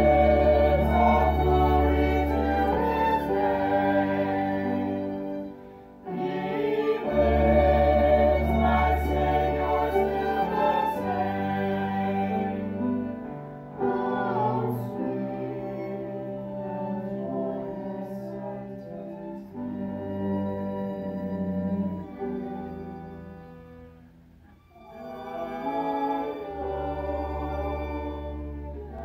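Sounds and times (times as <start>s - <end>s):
voices singing a hymn: 0.0s - 23.2s, 24.8s - 29.0s
bowed strings: 0.0s - 29.0s
piano: 0.0s - 29.0s.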